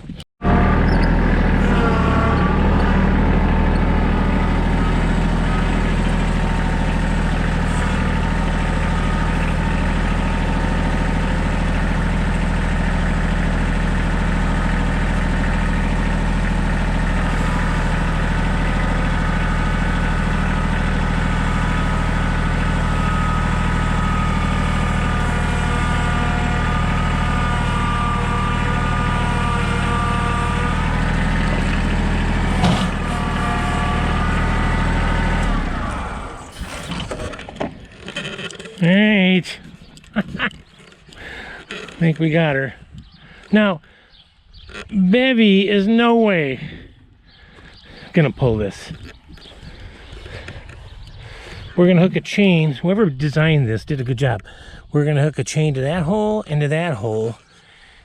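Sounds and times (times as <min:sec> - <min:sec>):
tractor engine idling: 0:00.1 - 0:58.0.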